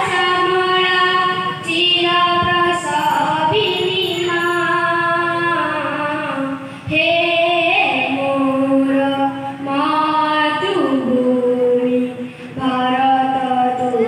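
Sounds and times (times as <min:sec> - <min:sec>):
child singing into a microphone: 0:00.0 - 0:14.0.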